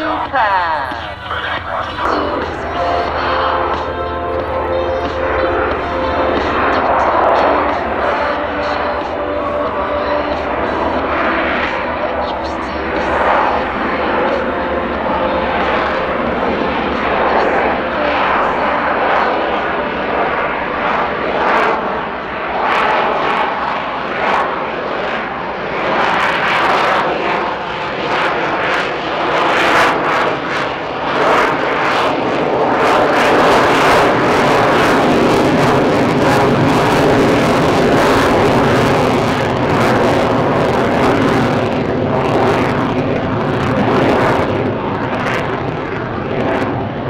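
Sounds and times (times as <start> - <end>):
loud jet rumble with crackle: 0.0 - 47.0.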